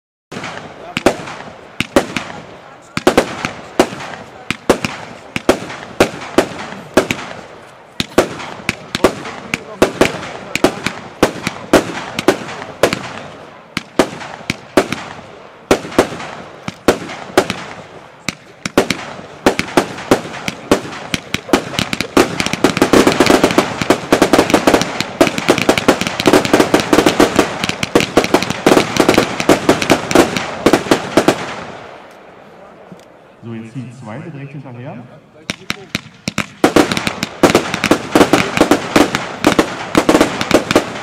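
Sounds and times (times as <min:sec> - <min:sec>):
firework battery bangs: 0:00.3 - 0:31.9, 0:35.4 - 0:41.0.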